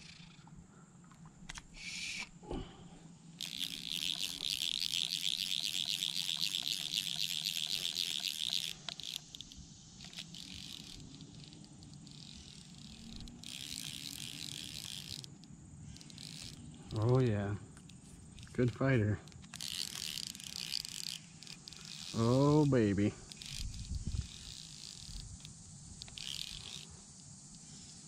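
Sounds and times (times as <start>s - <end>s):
fishing reel clicking: 0.0s - 0.4s, 1.5s - 2.3s, 3.3s - 28.0s.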